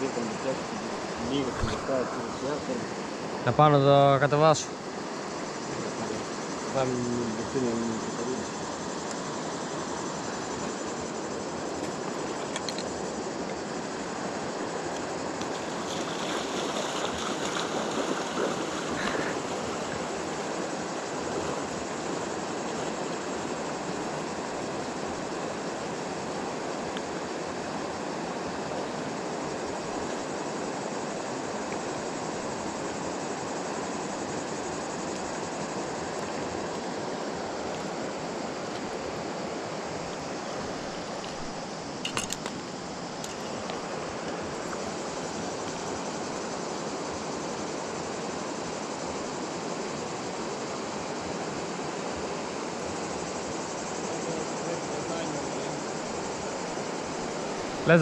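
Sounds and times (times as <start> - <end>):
river water over gravel: 0.0 - 58.0.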